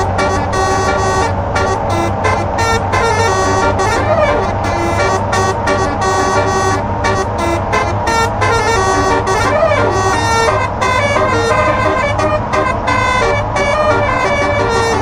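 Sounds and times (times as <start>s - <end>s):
low engine hum: 0.0s - 15.0s
multi-tone air horn playing a tune: 0.0s - 15.0s.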